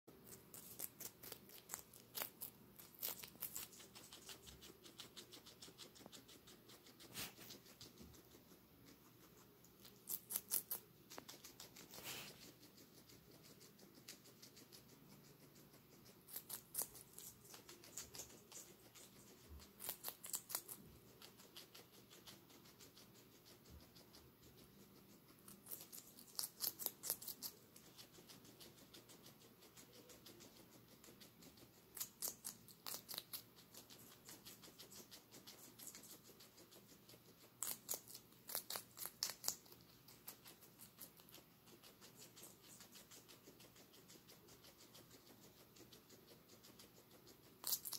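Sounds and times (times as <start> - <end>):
guinea pig crunching pepper: 0.0 - 47.9.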